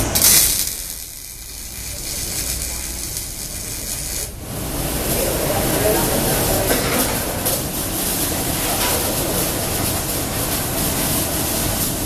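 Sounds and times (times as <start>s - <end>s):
welding arc crackling and hissing: 0.0s - 12.0s.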